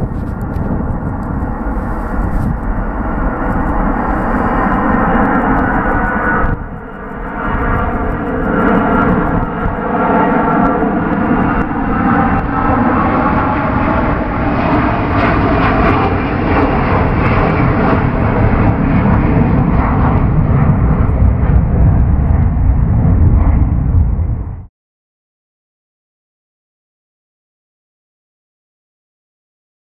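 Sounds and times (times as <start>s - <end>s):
jet engines roaring at take-off: 0.0s - 24.7s.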